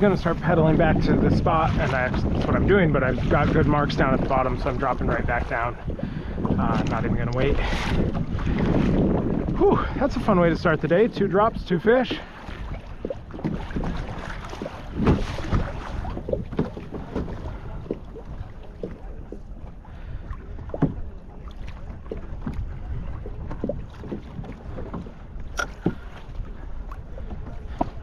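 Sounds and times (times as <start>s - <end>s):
water lapping against hull: 0.0s - 28.0s
wind on microphone: 0.0s - 28.0s.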